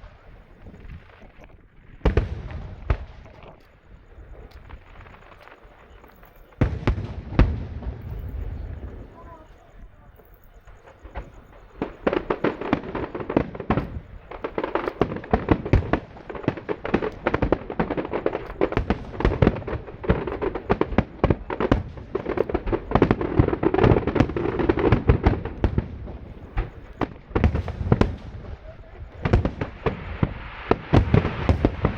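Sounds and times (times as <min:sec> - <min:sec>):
fireworks bursts and bangs: 0:00.0 - 0:31.9.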